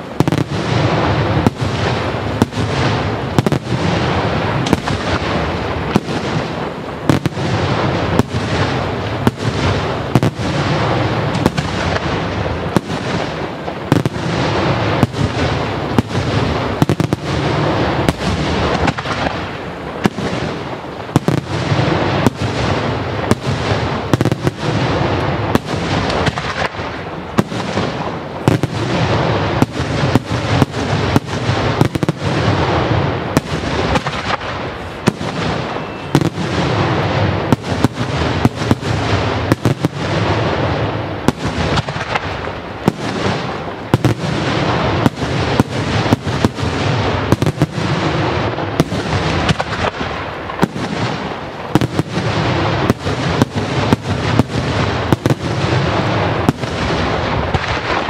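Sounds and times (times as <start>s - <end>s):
fireworks bangs: 0.0s - 58.0s
fireworks crackle: 0.0s - 58.0s.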